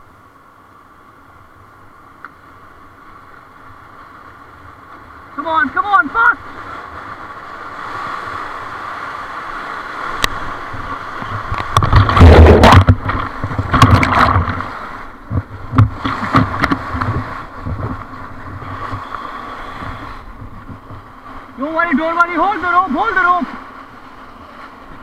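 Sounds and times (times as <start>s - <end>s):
waves splashing against raft: 1.1s - 25.0s
whitewater rushing: 2.7s - 25.0s.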